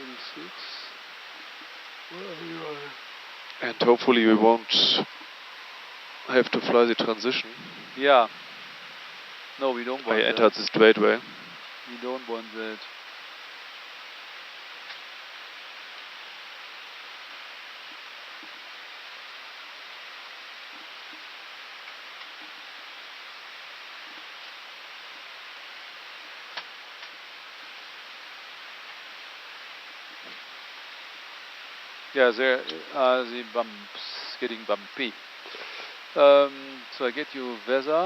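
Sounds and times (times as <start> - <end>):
cockpit airflow and ventilation hiss: 0.0 - 38.0.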